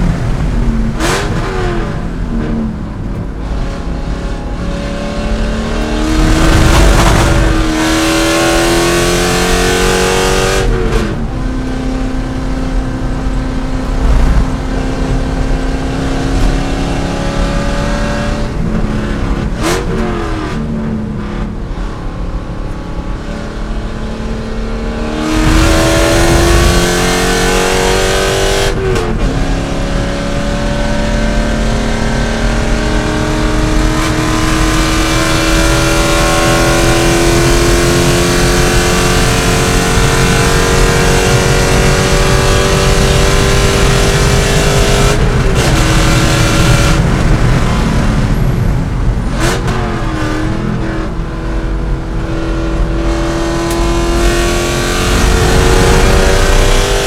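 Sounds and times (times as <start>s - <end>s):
racing car engine accelerating: 0.0s - 57.0s
wind noise: 0.0s - 57.0s.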